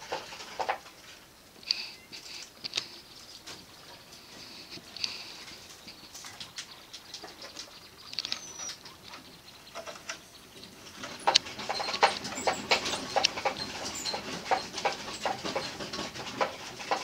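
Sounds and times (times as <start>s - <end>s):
small clicks and scrabbling: 0.0s - 17.0s.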